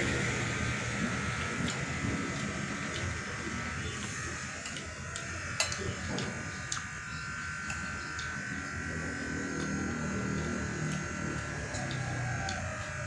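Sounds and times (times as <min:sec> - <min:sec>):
steady buzzing hum: 0:00.0 - 0:13.0.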